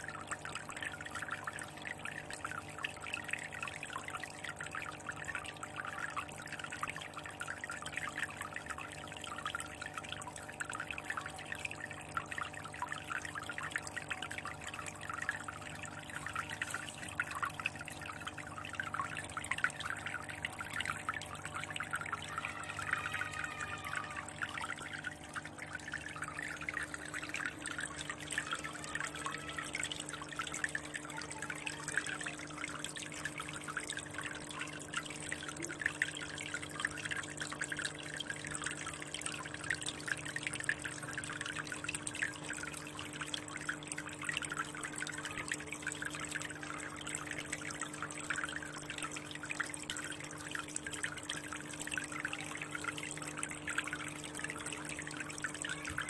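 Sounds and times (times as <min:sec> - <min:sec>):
aquarium water bubbling: 0:00.0 - 0:56.0.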